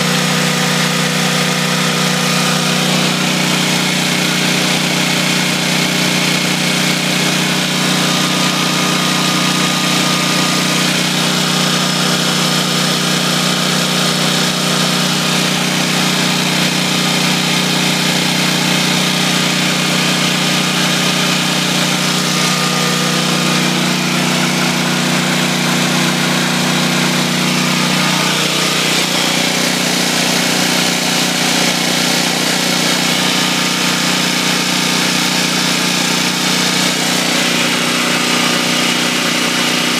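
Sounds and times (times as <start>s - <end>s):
generator engine running: 0.0s - 39.9s.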